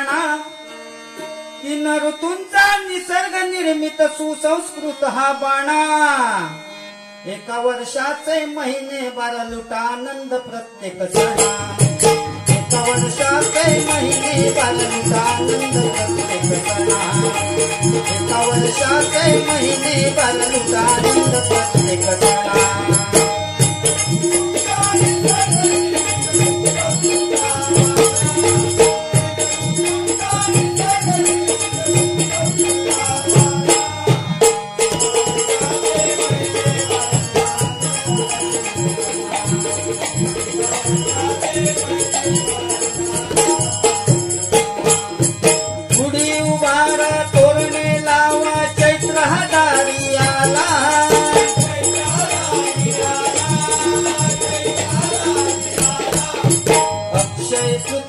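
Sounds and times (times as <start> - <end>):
harmonium melody: 0.0 - 58.0
jingling hand cymbals: 11.1 - 58.0
fast drum rhythm: 11.2 - 58.0.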